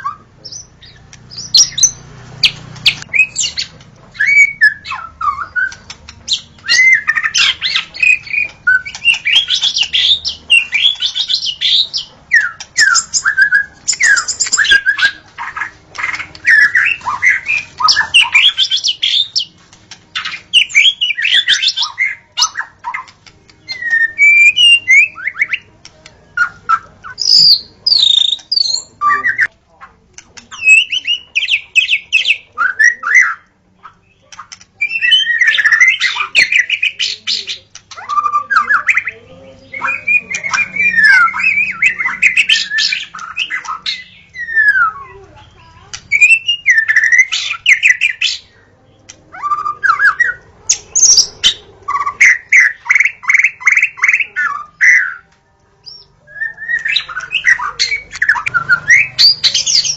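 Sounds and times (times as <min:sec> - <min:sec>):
songbird singing whistles and trills: 0:00.0 - 0:19.5, 0:20.1 - 0:29.5, 0:30.4 - 0:59.9.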